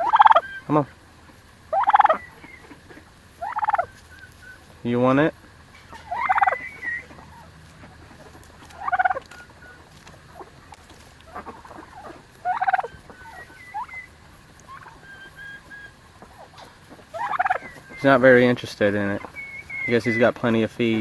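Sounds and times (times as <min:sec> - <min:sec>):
faint high bird calls: 0:00.0 - 0:01.0, 0:01.7 - 0:04.8, 0:05.7 - 0:20.7
turkey gobbling: 0:00.0 - 0:21.0.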